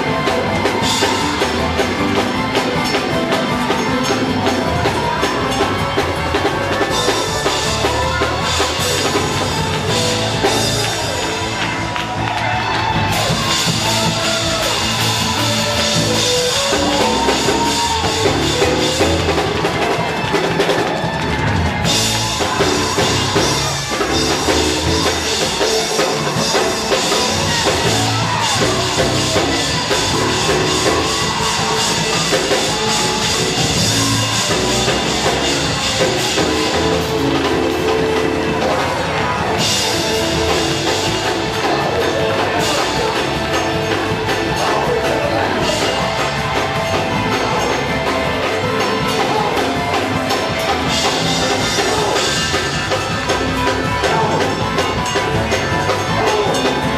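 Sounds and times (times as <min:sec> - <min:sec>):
church praise music: 0:00.0 - 0:56.9
drum kit: 0:00.0 - 0:56.9.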